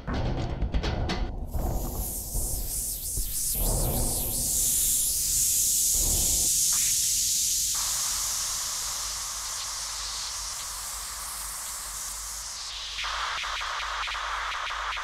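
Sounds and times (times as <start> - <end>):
high electronic noise hiss: 1.5 - 15.0.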